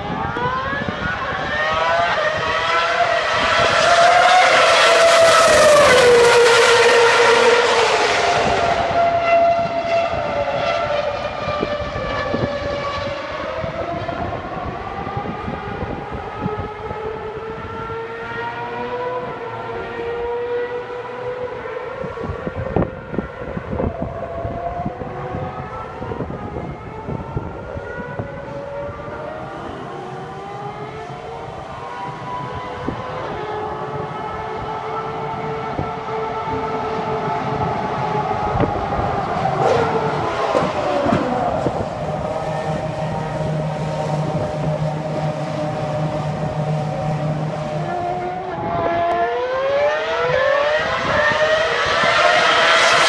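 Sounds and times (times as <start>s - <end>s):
distant race car whine: 0.0s - 53.0s
race car engine passing: 0.0s - 53.0s.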